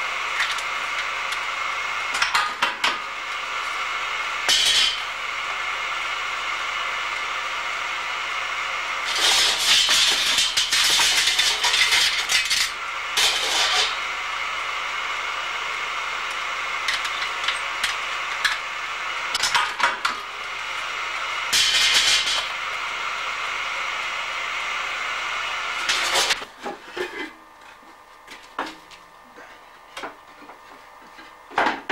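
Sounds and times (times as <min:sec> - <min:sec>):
machine hum: 0:00.0 - 0:31.9.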